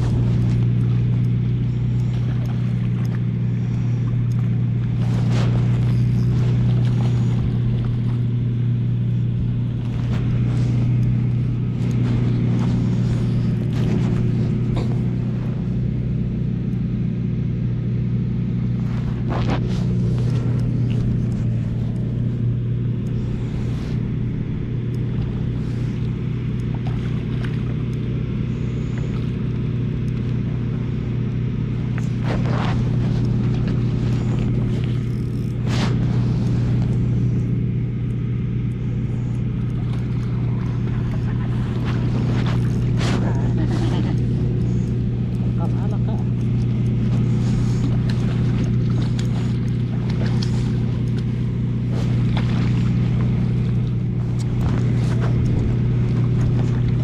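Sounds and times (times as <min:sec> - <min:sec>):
even hum: 0:00.0 - 0:57.0
low outdoor rumble: 0:00.0 - 0:57.0.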